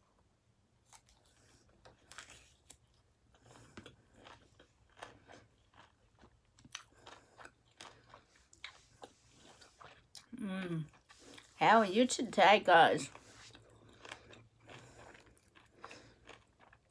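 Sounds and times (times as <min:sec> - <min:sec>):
person chewing with wet smacks: 0:00.8 - 0:11.6, 0:13.0 - 0:16.9.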